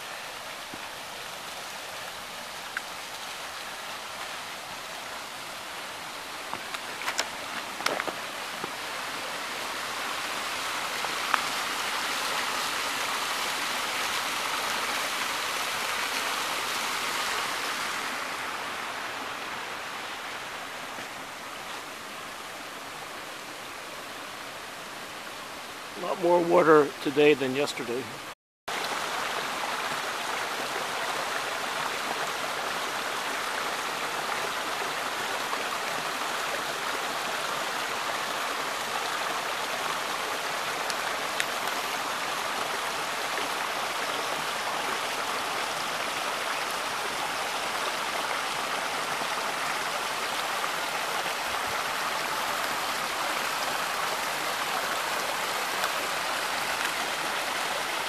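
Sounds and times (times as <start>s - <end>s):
creek rushing over rocks: 0.0s - 58.0s.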